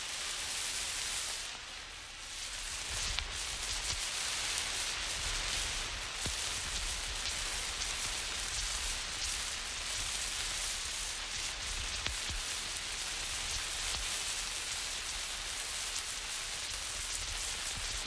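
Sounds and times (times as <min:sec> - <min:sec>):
crackles and small pops: 0:00.0 - 0:18.0.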